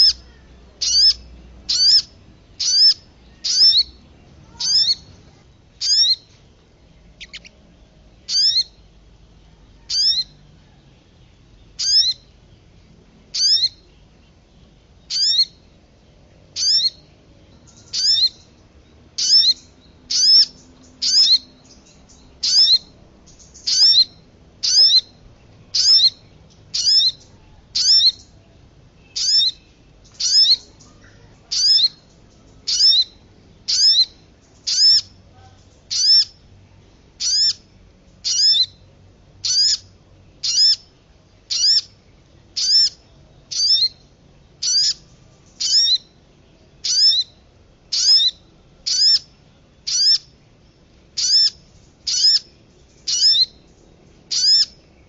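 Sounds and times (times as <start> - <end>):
songbird call: 0.0 - 55.0.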